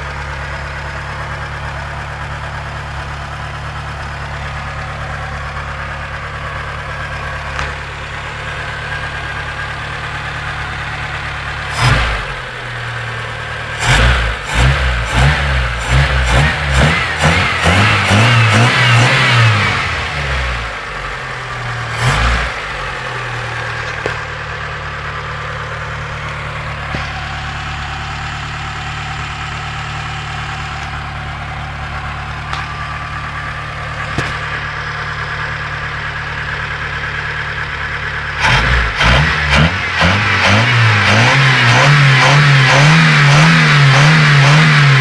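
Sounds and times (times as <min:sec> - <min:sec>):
car engine revving and idling: 0:00.0 - 0:45.0
engine knock: 0:00.0 - 0:45.0.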